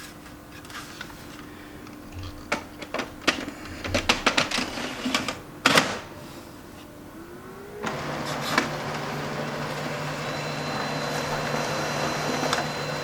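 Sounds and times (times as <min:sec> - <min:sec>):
printer cooling fan hum: 0:00.0 - 0:13.0.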